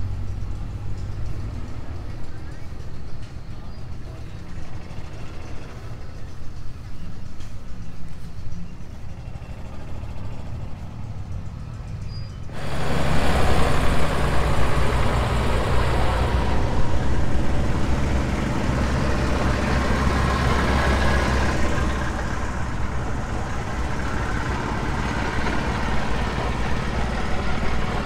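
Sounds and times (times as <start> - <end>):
tractor engine low rumble: 0.0 - 28.0.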